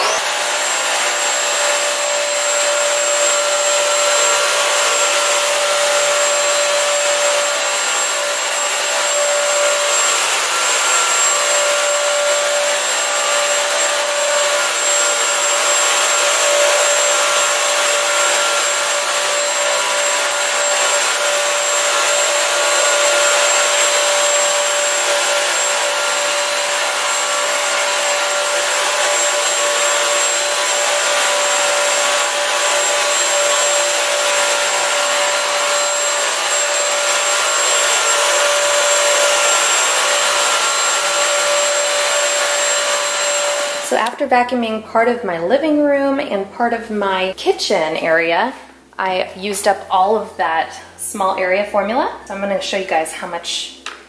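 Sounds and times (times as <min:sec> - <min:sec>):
vacuum cleaner motor whine: 0:00.0 - 0:44.2.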